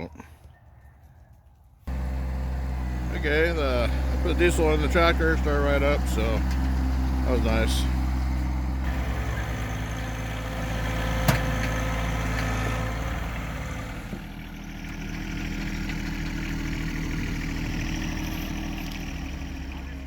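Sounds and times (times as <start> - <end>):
diesel tractor engine idling: 1.9 - 20.0.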